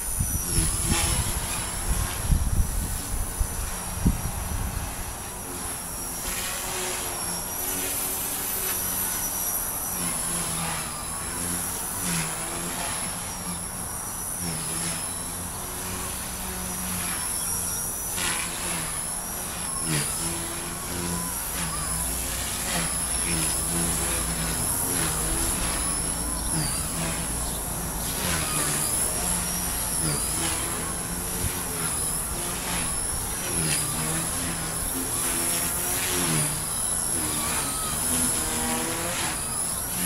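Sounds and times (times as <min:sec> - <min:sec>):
model helicopter motor whine: 0:00.0 - 0:40.0.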